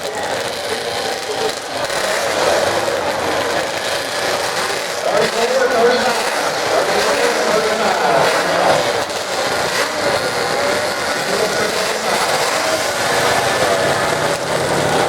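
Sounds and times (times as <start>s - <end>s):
racing engines wavering: 0.0s - 15.0s
steady wash of noise: 2.2s - 15.0s.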